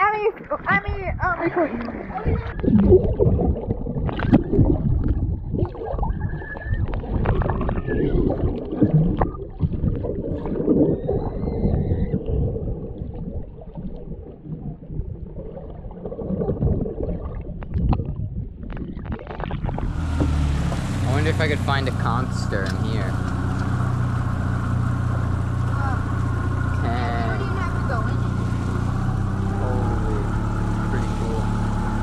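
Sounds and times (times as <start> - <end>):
underwater water rumble: 0.0 - 32.0
water gurgling: 0.0 - 32.0.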